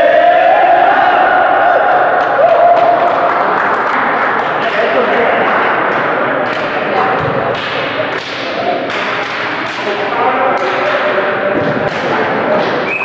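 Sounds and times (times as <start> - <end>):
hand slaps echoing: 1.9 - 13.0.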